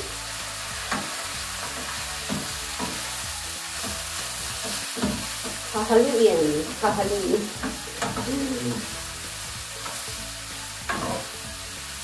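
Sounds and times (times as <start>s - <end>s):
vegetables sizzling in a frying pan: 0.0s - 12.0s
spatula scraping a pan: 0.8s - 11.5s.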